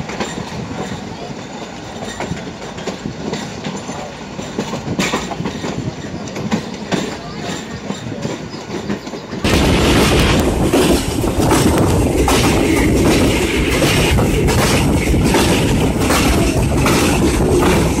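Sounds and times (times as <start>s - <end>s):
passenger train rumbling: 0.0s - 18.0s
wind buffeting microphone: 0.0s - 18.0s.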